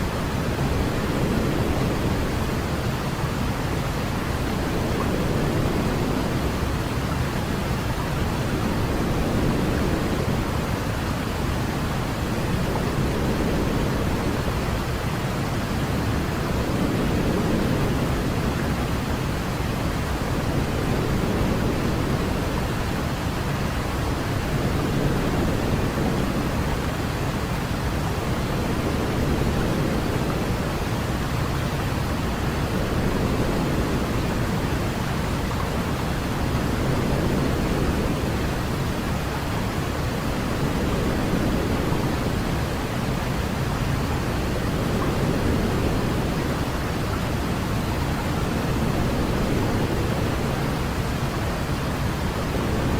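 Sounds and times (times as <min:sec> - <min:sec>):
white noise hiss: 0:00.0 - 0:52.9.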